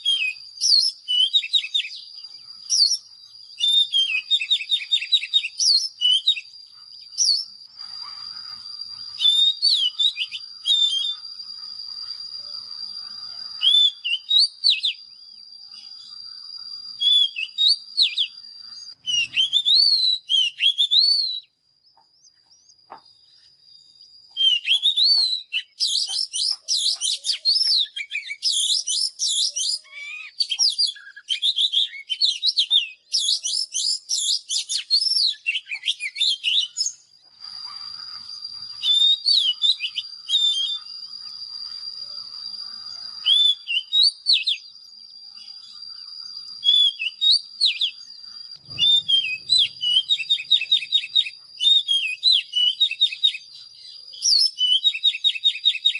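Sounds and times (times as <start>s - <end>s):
thin steady high tone: 0.0s - 19.6s, 21.4s - 55.9s
bird singing whistled notes: 0.0s - 55.9s.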